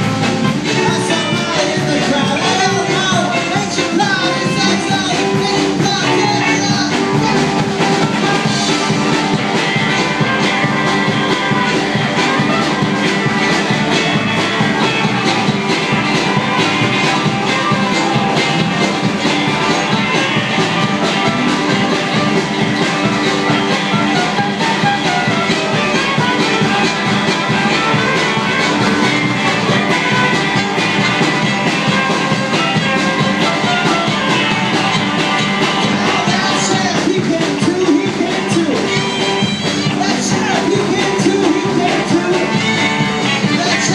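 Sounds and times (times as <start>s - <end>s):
live folk-rock band playing: 0.0s - 43.9s.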